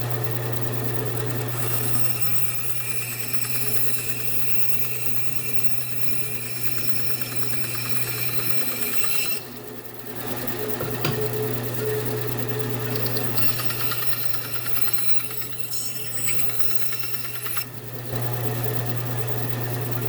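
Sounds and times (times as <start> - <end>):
electric machine motor buzzing: 0.0 - 20.0.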